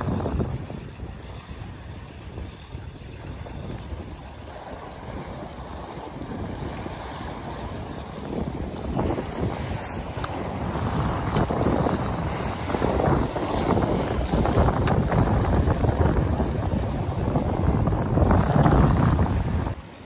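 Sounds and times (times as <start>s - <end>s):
waves breaking over rocks: 0.0s - 19.8s
wind buffeting microphone: 0.0s - 19.8s.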